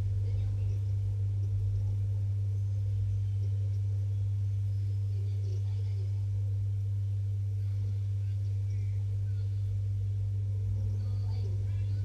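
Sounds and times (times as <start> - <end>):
faint background noise: 0.0 - 12.0
steady low hum: 0.0 - 12.0.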